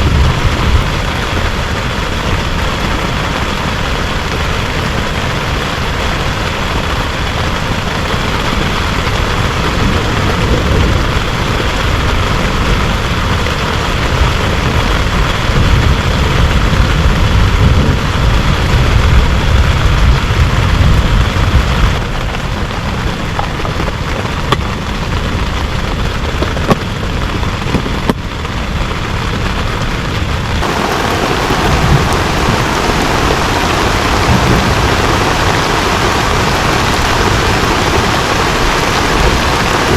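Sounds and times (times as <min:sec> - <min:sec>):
heavy rain falling: 0:00.0 - 0:39.9
low rumble: 0:00.0 - 0:39.9.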